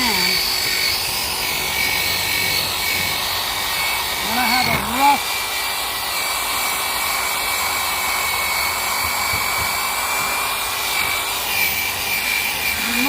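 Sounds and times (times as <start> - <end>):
electric drill wire brush scouring: 0.0 - 13.0.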